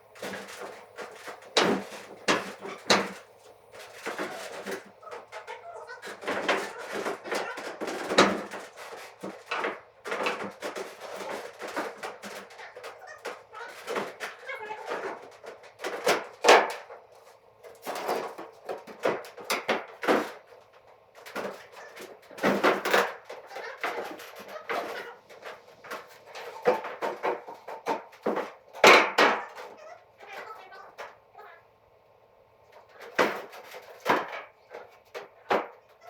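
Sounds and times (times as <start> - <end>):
hard objects knocking and clattering: 0.0 - 17.0, 17.8 - 30.4, 32.9 - 35.9.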